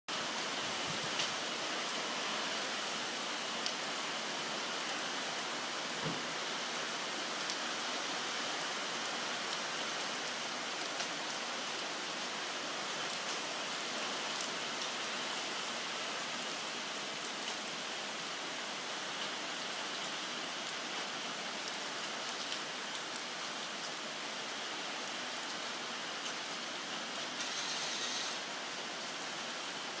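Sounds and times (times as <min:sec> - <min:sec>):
heavy rain falling: 0:00.1 - 0:30.0.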